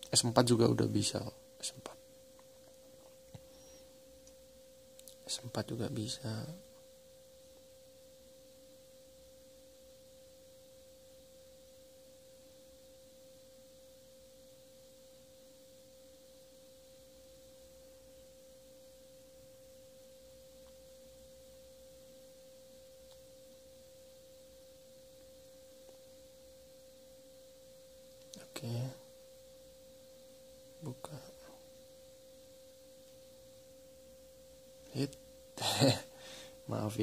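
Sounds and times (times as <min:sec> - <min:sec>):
faint steady pitched tone: 0:00.0 - 0:37.0
low hiss: 0:00.0 - 0:37.0.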